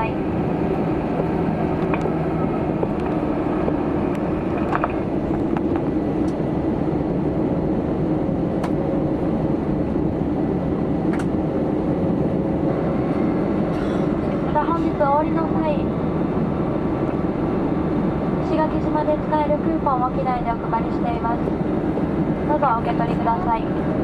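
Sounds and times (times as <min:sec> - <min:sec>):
jet engines idling in cabin: 0:00.0 - 0:24.0.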